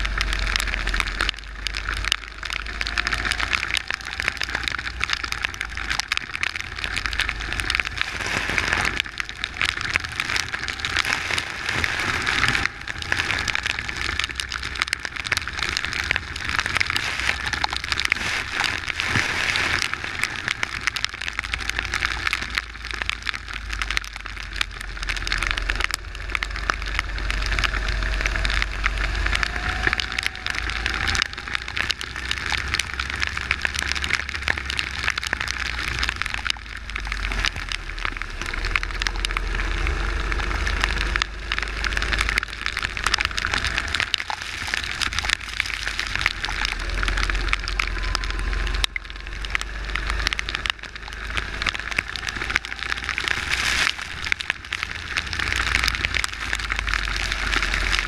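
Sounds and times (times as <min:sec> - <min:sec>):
low rumble: 0:00.0 - 0:58.0
rain and wheel spray hissing: 0:00.0 - 0:58.0.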